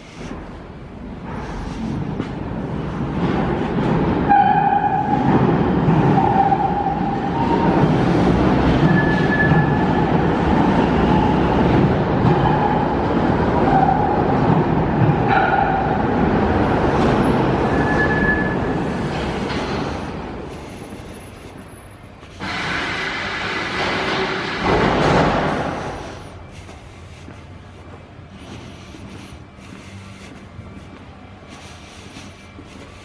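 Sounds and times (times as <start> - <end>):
metro train rumbling to a stop: 0.0 - 33.0.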